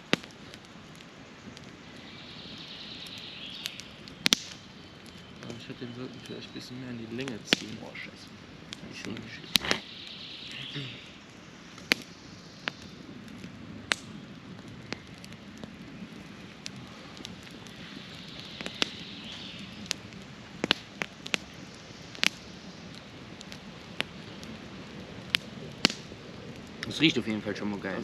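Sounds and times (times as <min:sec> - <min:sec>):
campfire crackling: 0:00.0 - 0:28.0
low hiss of fire: 0:00.0 - 0:28.0
sharp pops of fire: 0:00.0 - 0:28.0.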